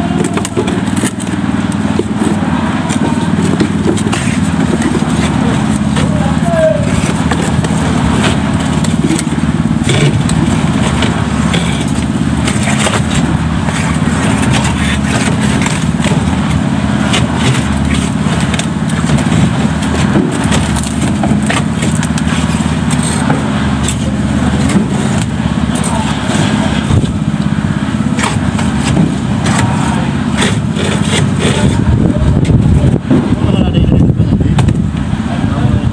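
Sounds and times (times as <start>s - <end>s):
steel buckets clanking on rebar: 0.0s - 32.8s
small engine running: 0.0s - 35.9s.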